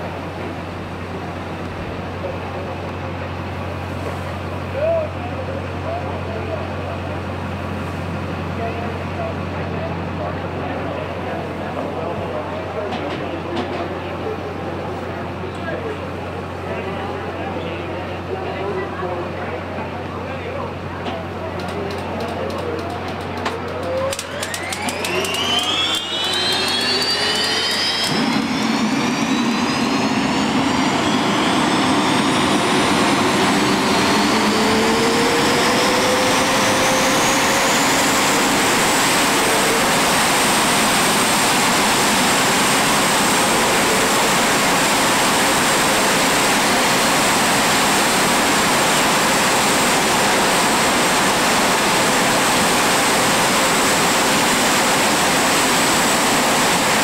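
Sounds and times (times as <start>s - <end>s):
turbojet engine whine: 0.0s - 57.0s.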